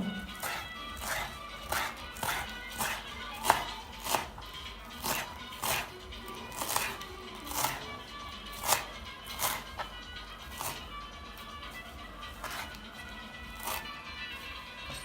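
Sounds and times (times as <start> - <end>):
knife chopping on cutting board: 0.0 - 9.9, 10.5 - 10.8, 11.4 - 13.9.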